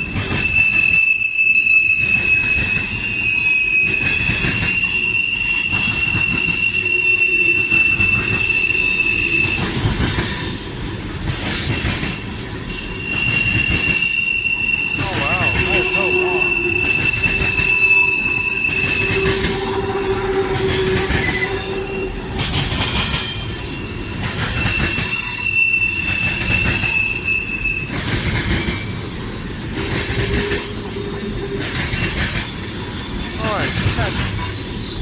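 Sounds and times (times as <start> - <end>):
rumble of wheels on track: 0.0 - 35.0
train wheels squealing on rails: 0.0 - 35.0.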